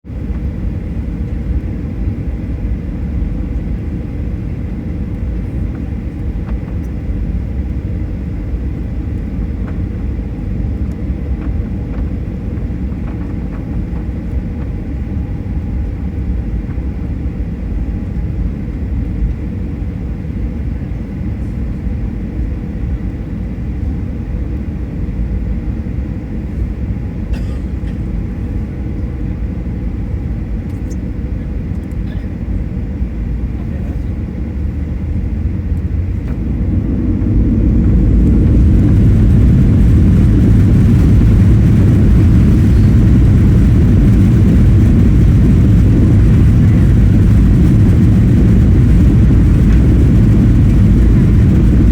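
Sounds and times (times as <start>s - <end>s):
airliner cabin rumble: 0.0s - 51.9s.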